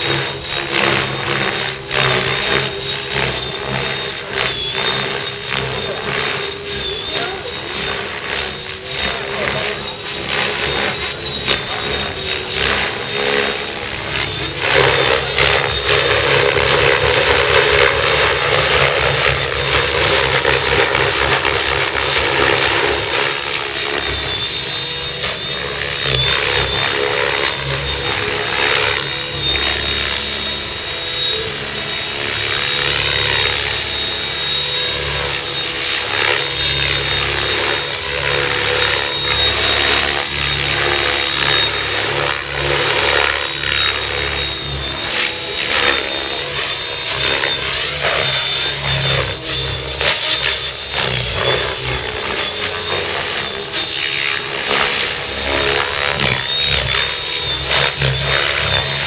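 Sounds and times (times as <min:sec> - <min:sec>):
rc helicopter motor whine: 0:00.0 - 0:59.0
rotor blades rushing: 0:00.0 - 0:59.0.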